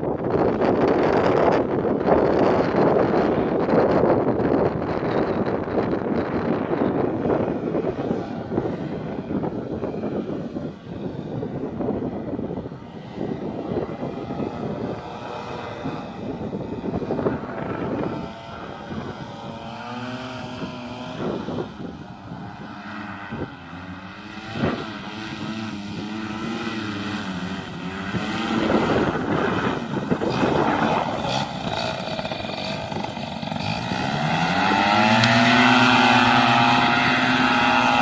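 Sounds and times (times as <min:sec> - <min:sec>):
paramotor engine droning overhead: 0:00.0 - 0:38.0
wind buffeting microphone: 0:00.0 - 0:38.0.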